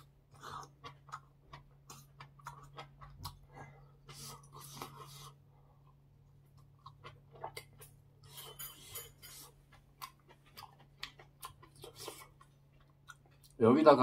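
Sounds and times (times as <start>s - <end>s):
person chewing noodles: 0.0s - 13.6s.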